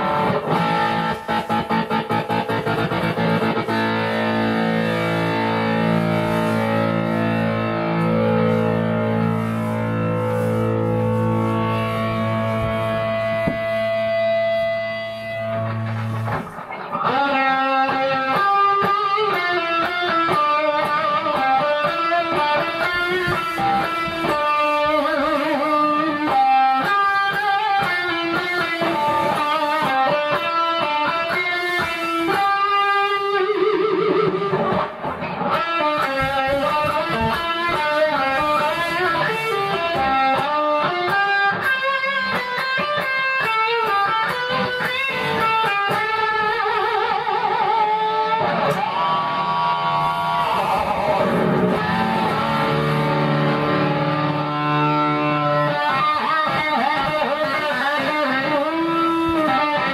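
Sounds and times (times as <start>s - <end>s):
electric guitar through amplifier: 0.0s - 59.9s.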